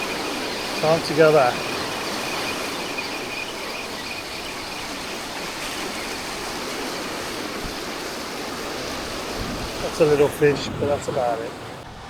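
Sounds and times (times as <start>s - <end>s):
ocean surf: 0.0s - 12.0s.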